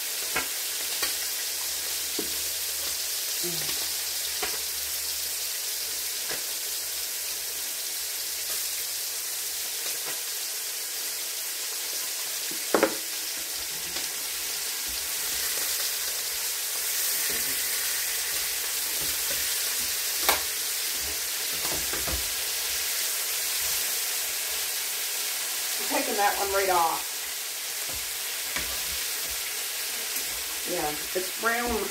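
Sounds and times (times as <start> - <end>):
meat sizzling in frying pans: 0.0 - 31.9.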